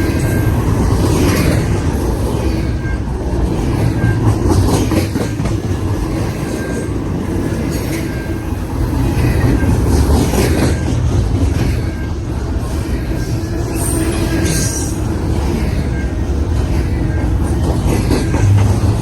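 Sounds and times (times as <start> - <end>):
freight train rumbling: 0.0 - 19.0
wheels clacking over rail joints: 0.0 - 19.0.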